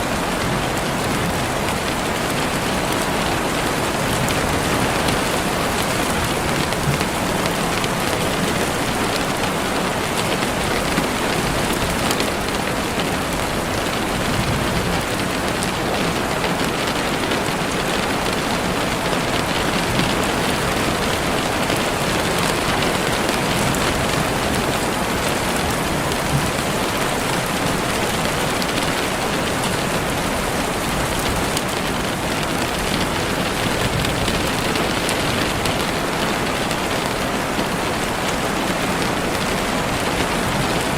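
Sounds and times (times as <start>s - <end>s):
heavy rain on leaves: 0.0s - 40.9s.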